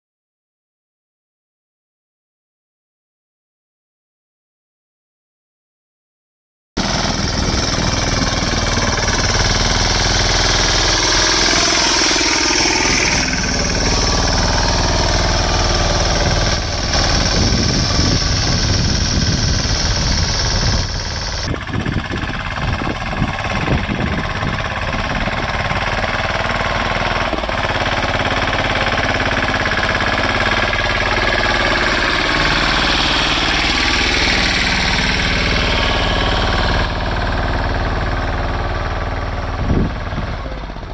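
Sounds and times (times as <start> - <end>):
tractor diesel engine running: 6.8 - 40.9.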